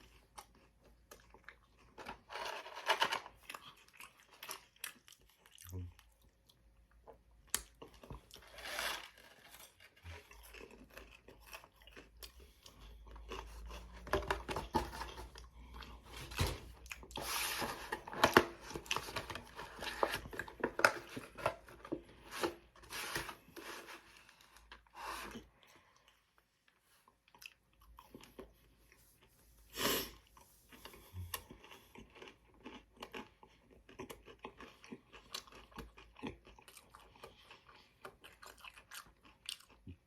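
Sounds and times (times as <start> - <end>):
man chewing and crunching food: 0.0 - 40.0.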